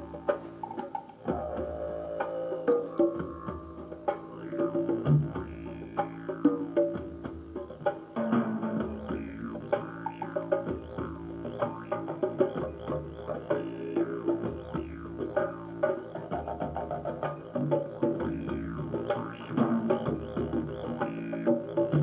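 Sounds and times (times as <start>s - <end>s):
didgeridoo drone: 0.0s - 22.0s.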